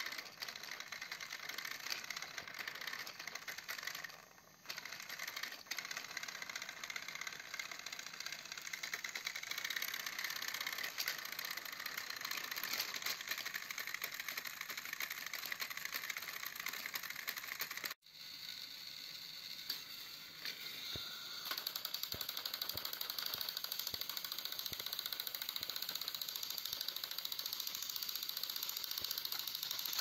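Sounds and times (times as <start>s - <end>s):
toy train motors whirring: 0.0s - 30.0s.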